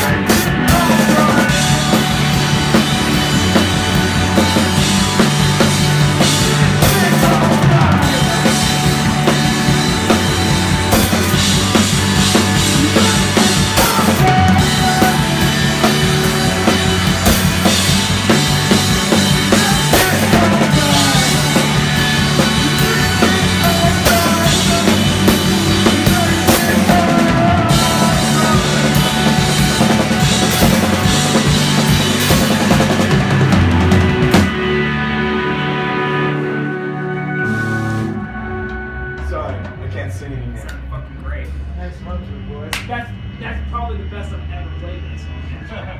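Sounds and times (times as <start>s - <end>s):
electric guitars: 0.0s - 40.8s
drum kit playing: 0.0s - 41.8s.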